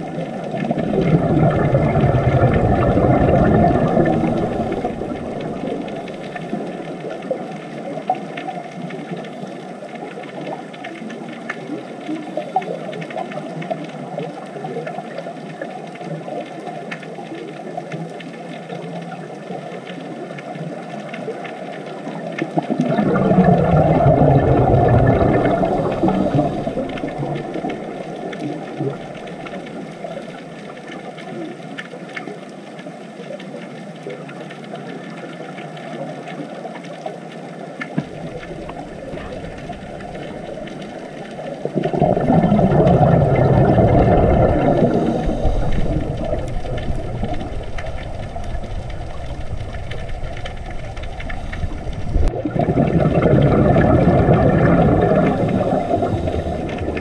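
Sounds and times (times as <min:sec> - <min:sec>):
muffled underwater water noise: 0:00.0 - 0:57.0.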